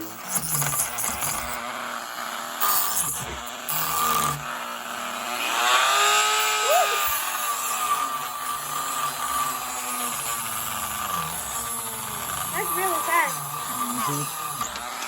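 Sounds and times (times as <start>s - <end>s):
rotary tool cutting wood: 0.0s - 15.0s.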